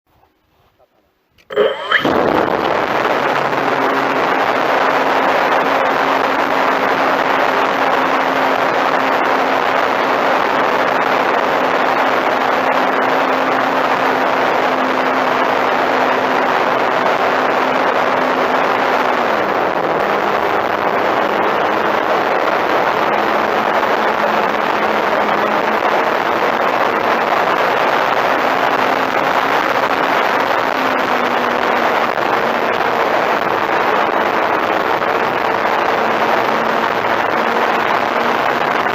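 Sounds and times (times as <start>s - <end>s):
model plane electric motor: 1.5s - 38.9s
wind rushing over microphone: 1.5s - 38.9s.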